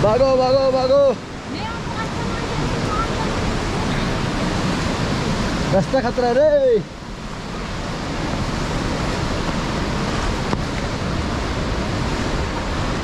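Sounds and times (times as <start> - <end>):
mountain river rushing: 0.0 - 13.0.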